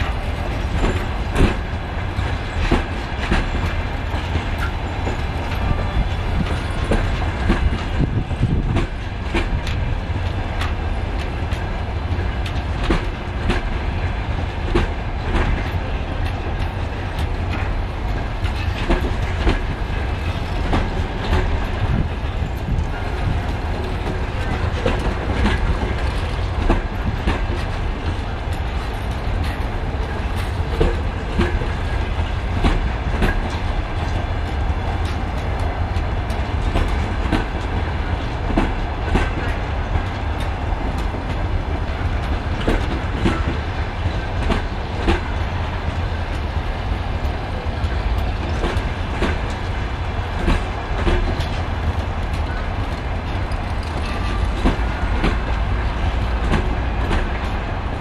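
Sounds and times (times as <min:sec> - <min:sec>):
train coaches rumbling past: 0:00.0 - 0:58.0.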